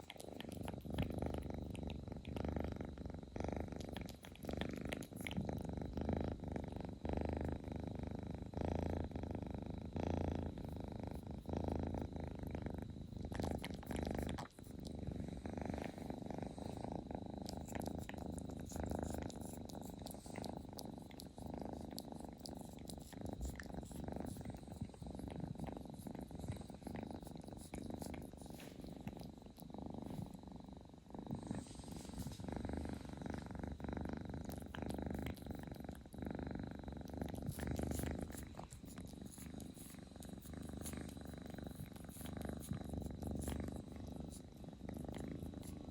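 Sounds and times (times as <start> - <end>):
kitten purring: 0.0 - 45.9.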